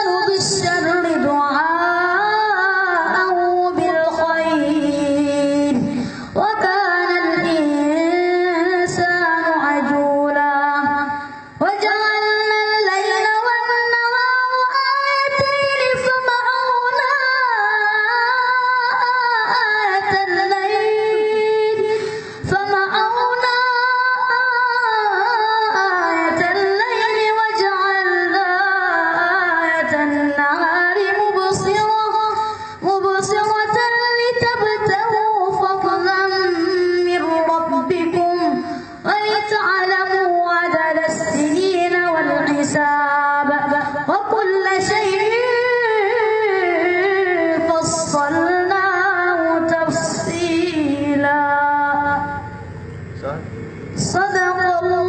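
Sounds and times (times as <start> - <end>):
boy chanting into microphone: 0.0 - 55.0.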